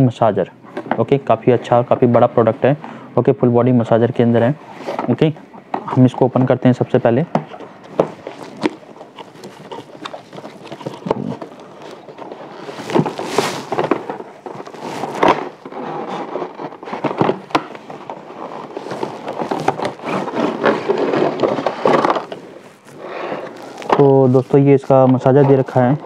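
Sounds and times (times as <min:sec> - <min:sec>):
cardboard and plastic packaging rustling: 0:00.0 - 0:26.0.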